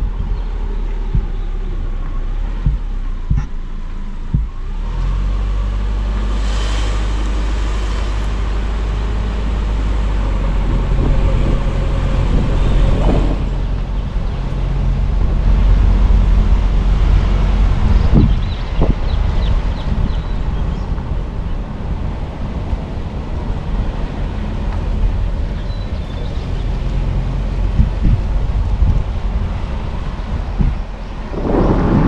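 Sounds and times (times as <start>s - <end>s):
car engine and road drone: 0.0s - 32.0s.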